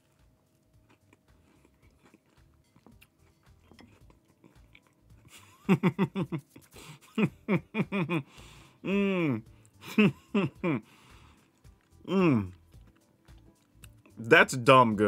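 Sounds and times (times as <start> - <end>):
person chewing pastry: 0.0 - 14.2.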